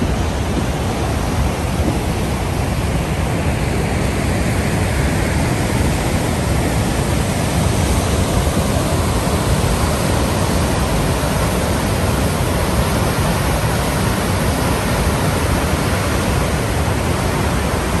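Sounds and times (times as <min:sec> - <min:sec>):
waterfall and rapids rushing: 0:00.0 - 0:18.0.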